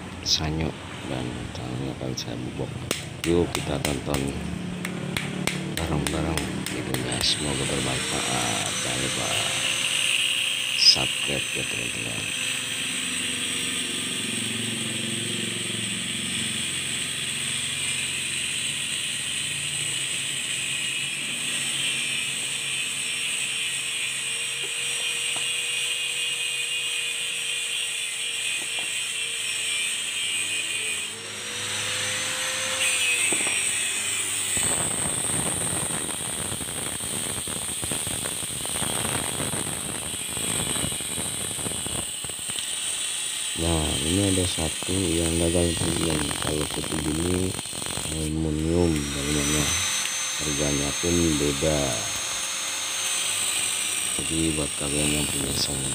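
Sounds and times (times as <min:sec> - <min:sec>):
steady high hum: 0:00.0 - 0:27.3, 0:30.0 - 0:55.9
angle grinder cutting steel: 0:00.2 - 0:55.9.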